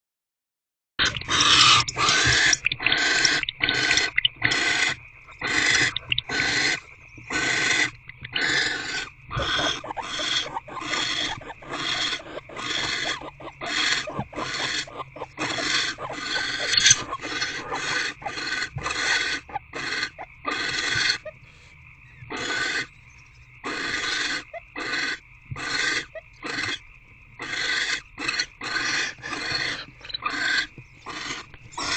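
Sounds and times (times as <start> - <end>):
owlets snore-like begging calls: 1.0 - 22.9, 23.6 - 26.8, 27.4 - 31.9
owls raspy hissing calls: 1.0 - 22.9, 23.6 - 26.8, 27.4 - 31.9.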